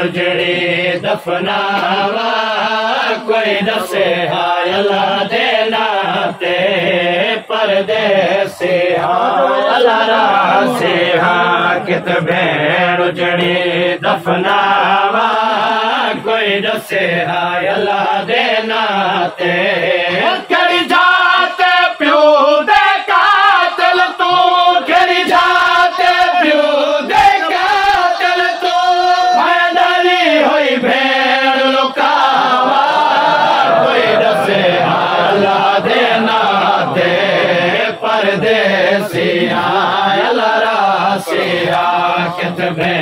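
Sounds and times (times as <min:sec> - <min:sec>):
crowd of men chanting: 0:00.0 - 0:43.0
man chanting a lament: 0:00.0 - 0:43.0.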